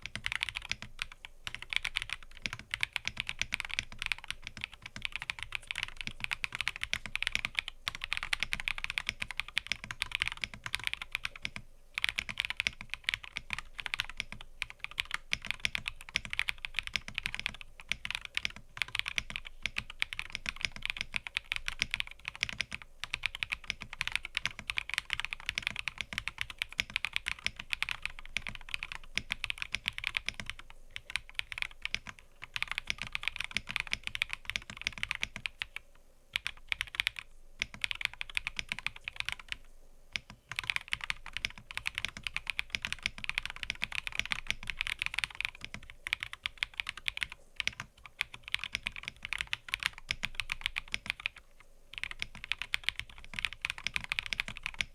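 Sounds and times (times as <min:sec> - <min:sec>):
typing on mechanical keyboard: 0:00.0 - 0:54.9.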